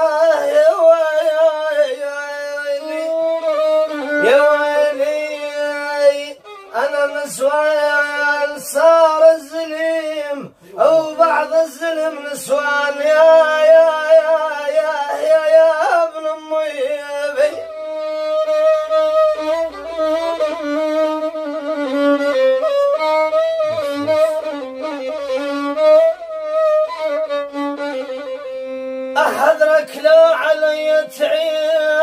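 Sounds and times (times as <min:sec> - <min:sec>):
violin melody: 0:00.0 - 0:10.2, 0:10.8 - 0:32.0.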